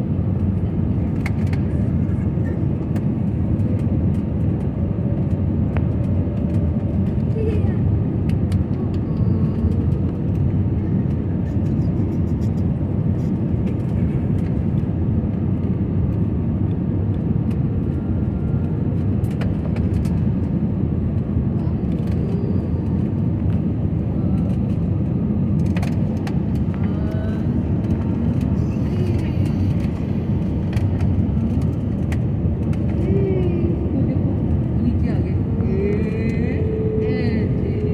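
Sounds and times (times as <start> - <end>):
jet engine cabin rumble: 0.0 - 37.9.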